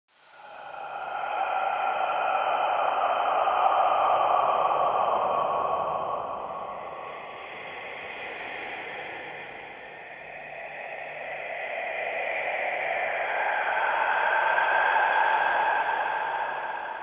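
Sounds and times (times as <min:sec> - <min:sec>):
breathy whispered breathing: 0:00.2 - 0:17.0.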